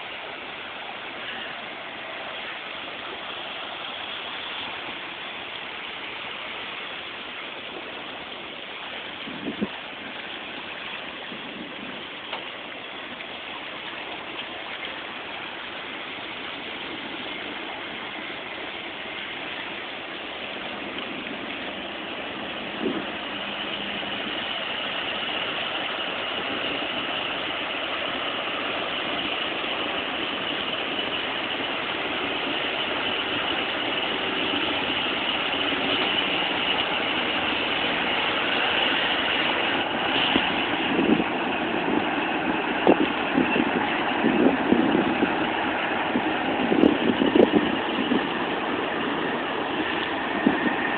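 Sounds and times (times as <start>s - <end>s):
boat diesel engines running: 0.0s - 50.9s
low rumbling bursts: 0.0s - 50.9s.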